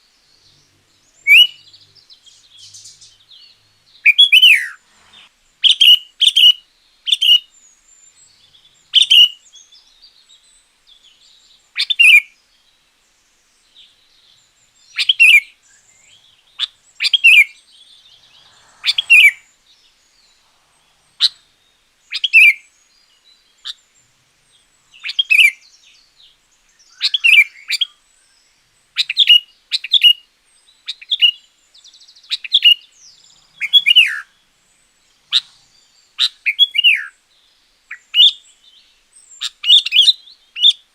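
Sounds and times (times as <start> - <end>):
bulbul singing: 0.0 - 12.4, 13.5 - 40.9.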